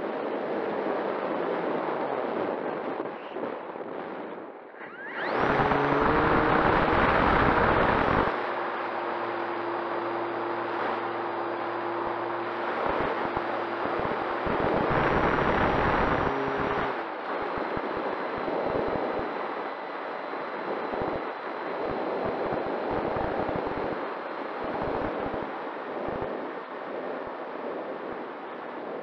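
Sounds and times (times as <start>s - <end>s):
wind buffeting microphone: 0.0s - 29.0s
electric motor and propeller whine: 3.8s - 29.0s.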